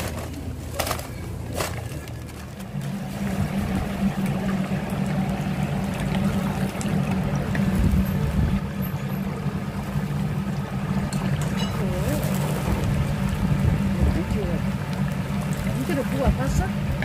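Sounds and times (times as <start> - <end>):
steady low hum: 0.0 - 17.0
oil sizzling and bubbling: 2.0 - 17.0.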